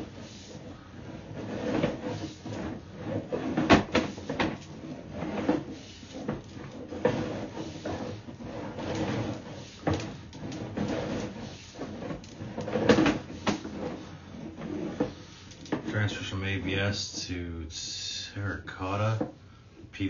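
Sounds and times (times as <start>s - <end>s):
cable rattling and scraping in drain: 0.0s - 16.9s.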